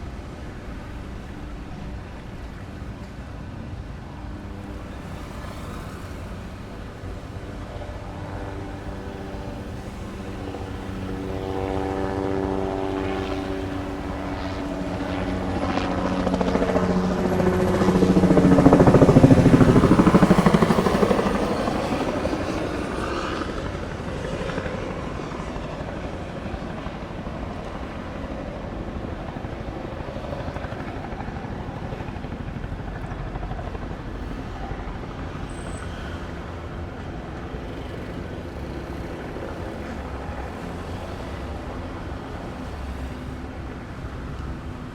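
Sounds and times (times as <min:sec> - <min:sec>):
helicopter passing overhead: 0:00.0 - 0:44.9.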